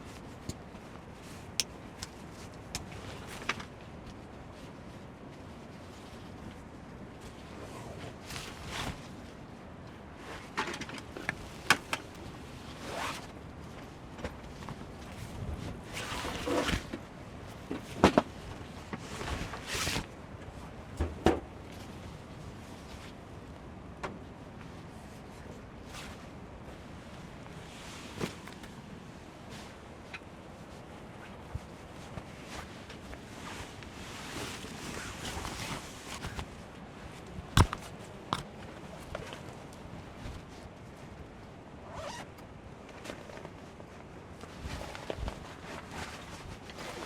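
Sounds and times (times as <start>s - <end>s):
rustling and shuffling: 0.0s - 42.2s, 42.8s - 47.0s.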